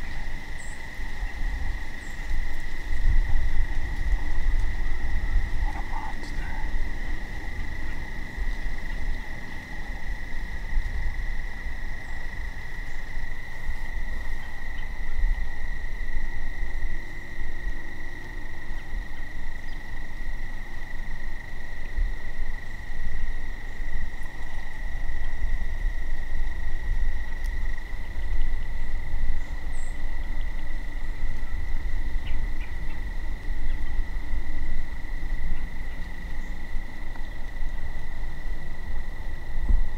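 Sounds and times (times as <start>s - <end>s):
crickets trilling: 0.0s - 39.9s
higher cricket trills: 0.0s - 39.9s
low rumble: 0.0s - 39.9s.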